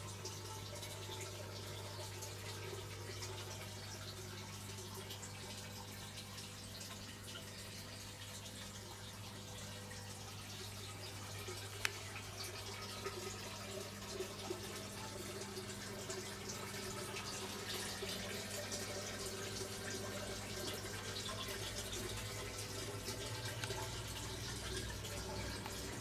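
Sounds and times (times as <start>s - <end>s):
low steady hum: 0.0s - 26.0s
water trickling and dripping: 0.0s - 26.0s.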